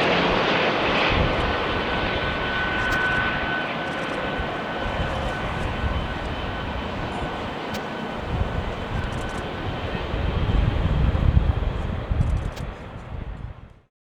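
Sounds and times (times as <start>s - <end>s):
jet engine rumble: 0.0s - 13.9s.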